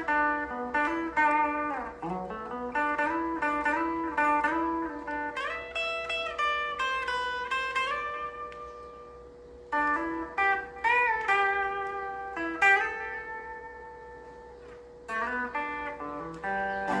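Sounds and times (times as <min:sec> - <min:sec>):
clean electric guitar melody: 0:00.0 - 0:17.0.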